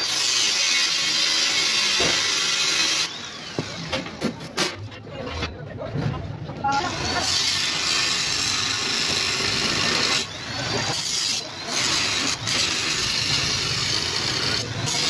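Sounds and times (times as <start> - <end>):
angle grinder grinding steel: 0.0 - 4.2, 6.8 - 15.0.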